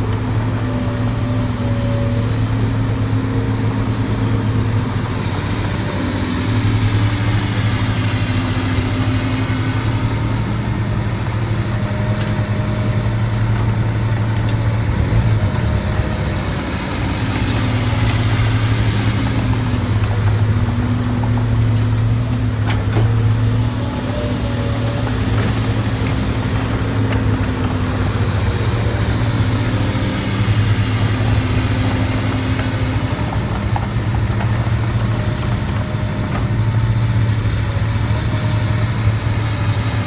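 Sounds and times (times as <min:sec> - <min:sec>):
diesel engine running under load: 0:00.0 - 0:40.0.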